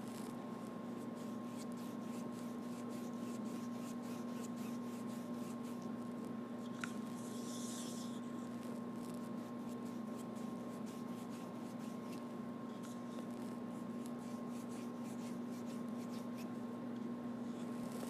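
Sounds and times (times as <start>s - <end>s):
paintbrush scraping: 1.0s - 5.9s, 6.8s - 16.6s.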